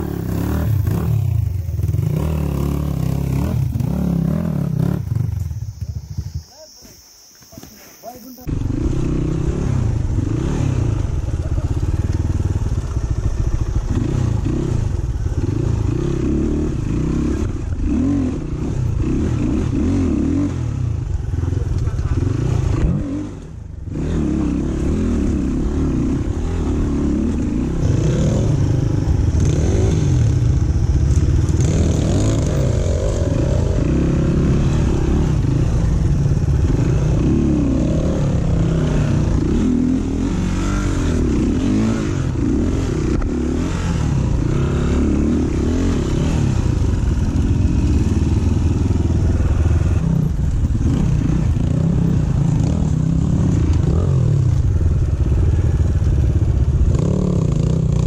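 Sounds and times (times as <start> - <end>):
dirt bike engine revving: 0.0 - 6.5, 8.5 - 58.0.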